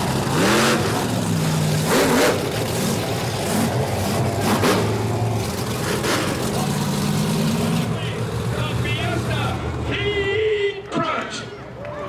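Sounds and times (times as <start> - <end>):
monster truck engine revving: 0.0 - 11.5.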